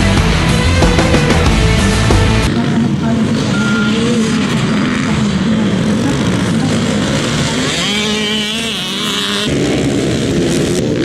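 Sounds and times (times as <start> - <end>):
buzzy engine revving: 0.0 - 11.0
racing engines revving: 0.0 - 11.0.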